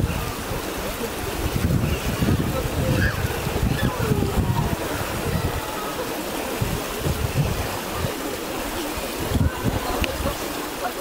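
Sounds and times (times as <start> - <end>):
swimmers splashing: 0.0 - 11.0
water lapping: 0.0 - 11.0
wind on microphone: 0.0 - 11.0.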